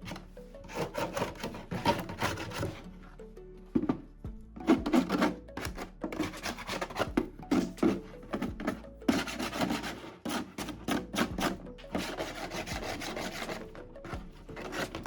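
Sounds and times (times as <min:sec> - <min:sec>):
rasp scraping wood: 0:00.0 - 0:02.9, 0:04.6 - 0:15.0
background music: 0:00.0 - 0:15.0.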